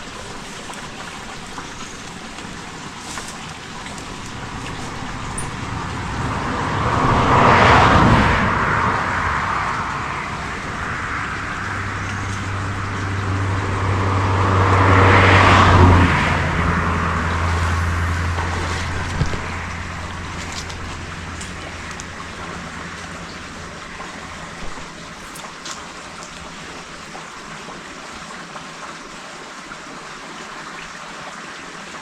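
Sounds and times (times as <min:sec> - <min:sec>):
vehicles passing by: 0:00.0 - 0:29.1
low engine hum: 0:00.0 - 0:29.2.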